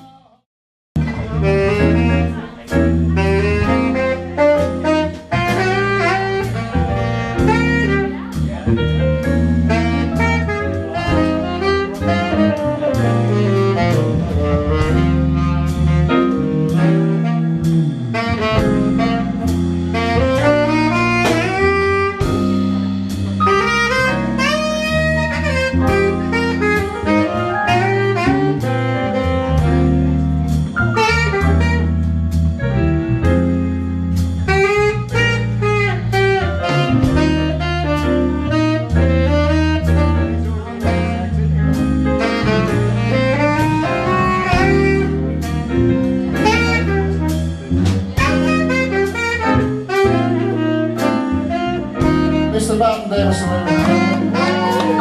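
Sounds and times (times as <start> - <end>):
live band bass drums keyboard: 1.0 - 55.0
tenor saxophone jazz solo: 1.0 - 55.0.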